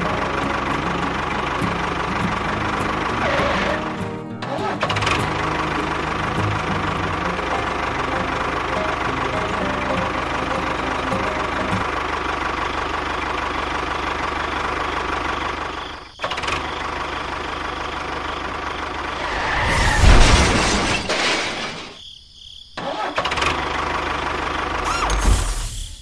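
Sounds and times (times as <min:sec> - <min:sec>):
model tractor engine drone: 0:00.0 - 0:19.4, 0:23.0 - 0:25.2.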